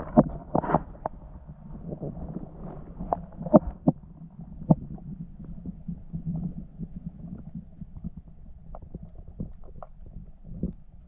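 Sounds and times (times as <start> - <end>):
low underwater rumble: 0.0 - 11.0.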